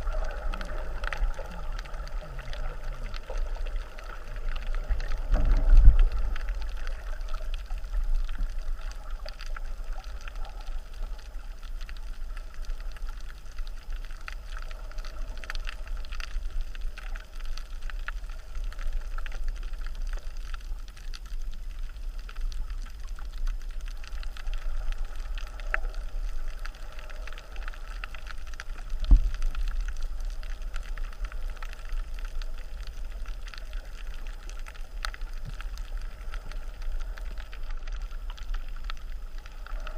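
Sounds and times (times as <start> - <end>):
underwater surf rumble: 0.0 - 39.9.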